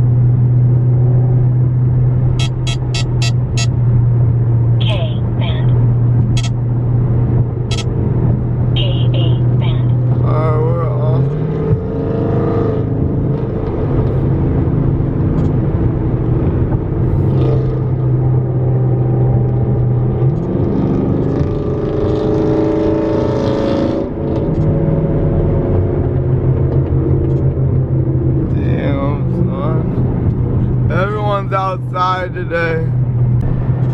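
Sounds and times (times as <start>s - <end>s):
car engine droning while driving: 0.0s - 33.9s.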